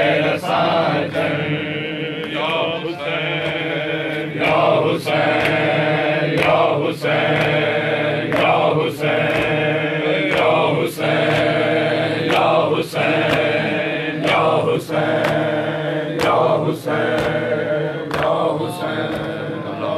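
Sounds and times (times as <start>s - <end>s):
men chanting in a drone: 0.0s - 19.9s
rhythmic chest-beating strikes: 0.0s - 19.9s.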